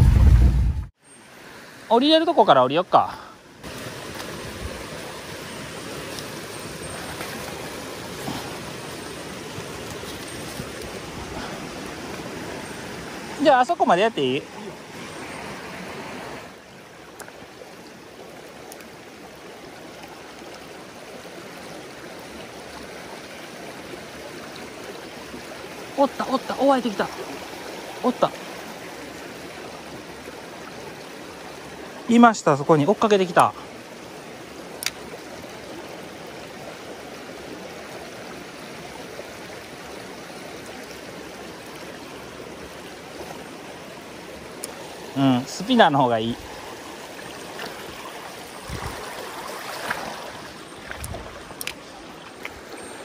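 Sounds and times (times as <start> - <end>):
stream rushing over stones: 0.0 - 53.0.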